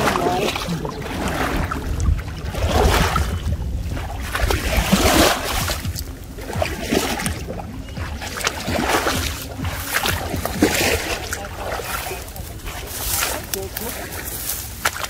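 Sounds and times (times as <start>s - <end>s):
water sloshing around wading legs: 0.0s - 15.0s.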